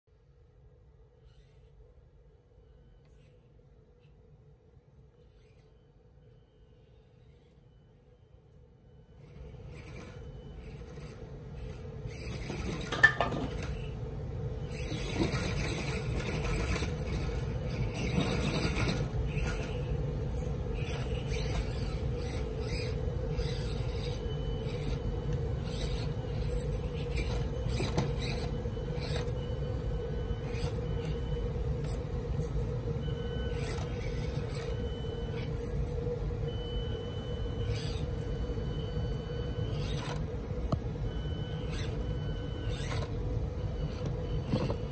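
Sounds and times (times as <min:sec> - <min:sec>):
electric motor and gear whine: 0:01.1 - 0:44.9.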